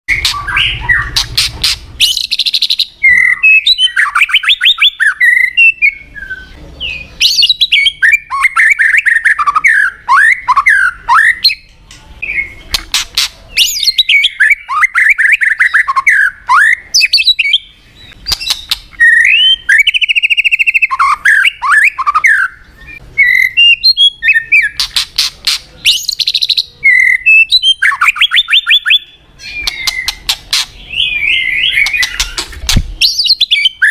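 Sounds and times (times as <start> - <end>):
bird singing trills and whistles: 0.1 - 33.9.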